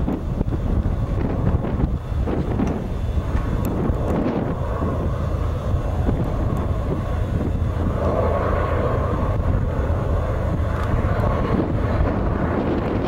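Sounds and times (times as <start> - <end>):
distant diesel locomotive drone: 0.0 - 13.0
wind noise on microphone: 0.0 - 13.0.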